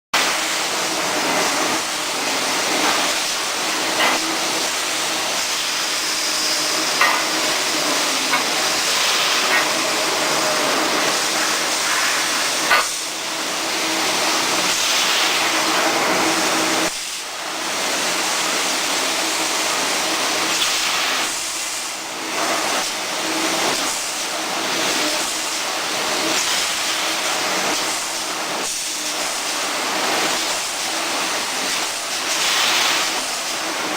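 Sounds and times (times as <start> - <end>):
welding machine hissing din: 0.2 - 33.9.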